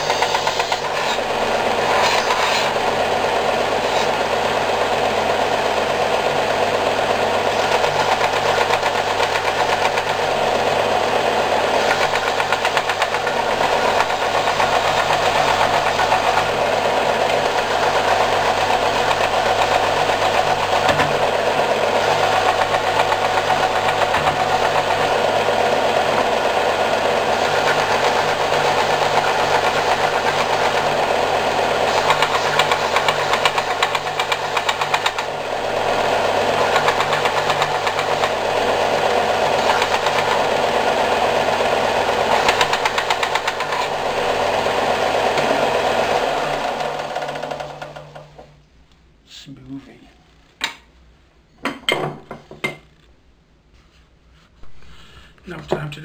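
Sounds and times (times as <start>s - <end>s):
belt sander sanding wood: 0.0s - 48.4s.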